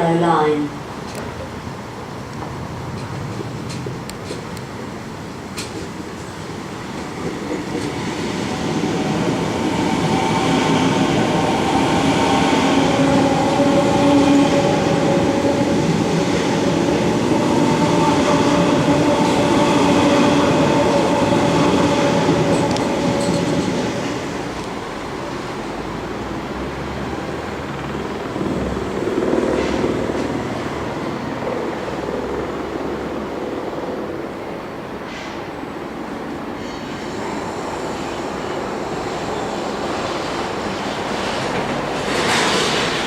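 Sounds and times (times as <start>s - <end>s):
electric train passing: 0.0s - 43.0s.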